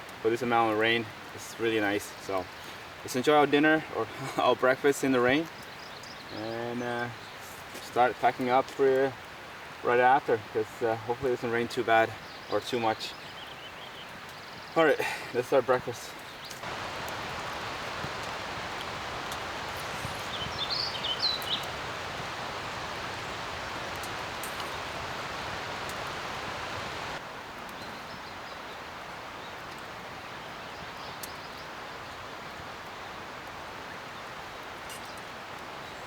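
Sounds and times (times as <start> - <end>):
light rain hissing: 0.0 - 36.0.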